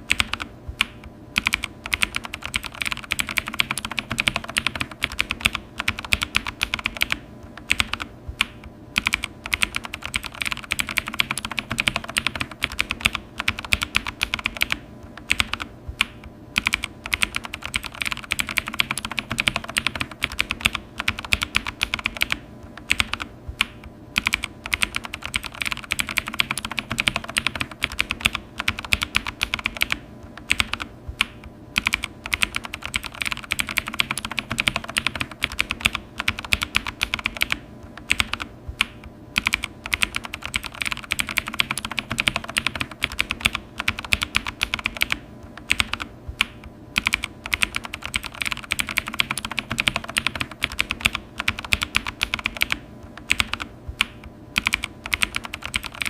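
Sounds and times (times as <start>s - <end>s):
typing on a computer keyboard: 0.0s - 56.0s.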